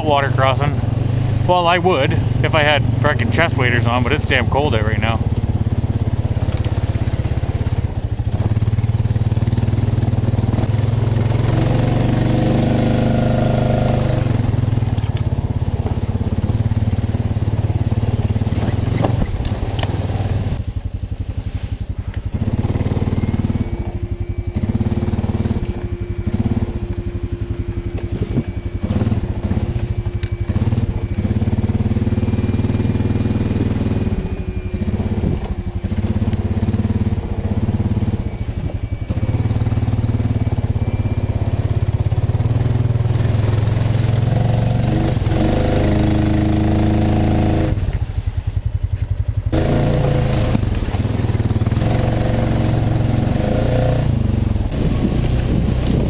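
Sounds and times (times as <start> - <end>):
atv engine running: 0.0 - 56.0
thin steady whine: 0.0 - 56.0.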